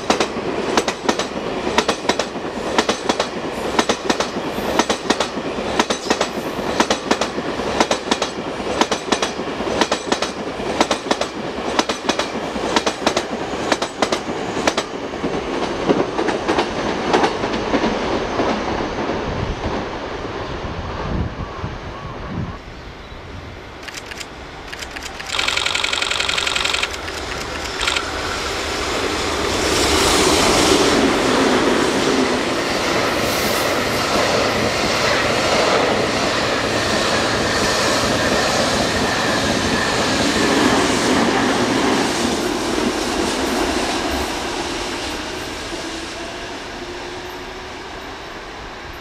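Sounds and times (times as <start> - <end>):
train wheels rumbling and clattering: 0.0 - 20.0, 23.8 - 47.9.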